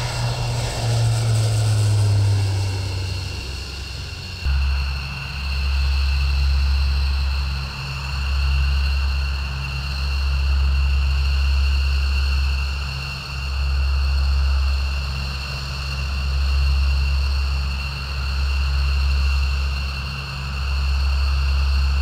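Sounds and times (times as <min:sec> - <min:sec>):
military aircraft engines: 0:00.0 - 0:22.0.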